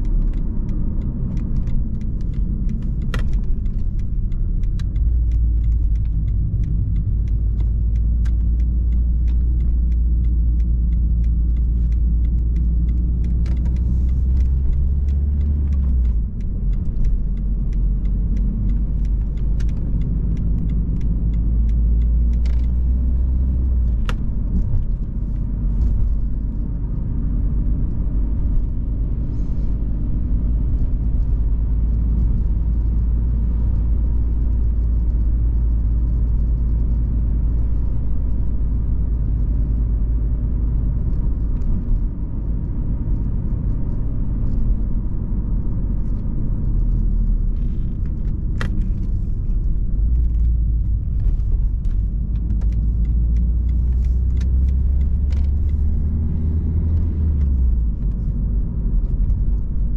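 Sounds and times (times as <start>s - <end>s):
car engine and road drone: 0.0s - 59.9s
small clicks and rattles: 0.0s - 59.9s.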